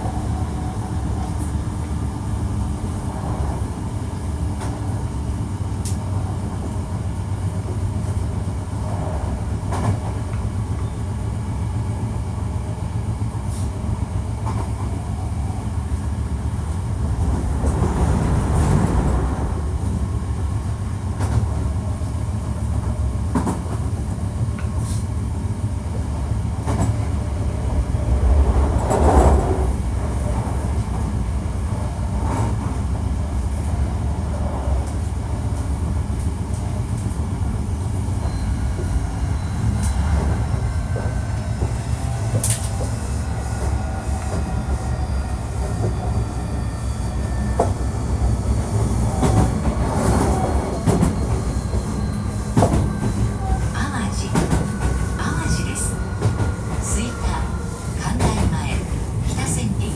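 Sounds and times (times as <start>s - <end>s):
train wheels rumbling on track: 0.0s - 59.9s
rail clicks: 5.7s - 8.2s, 8.8s - 11.0s, 14.2s - 25.2s, 25.9s - 59.9s.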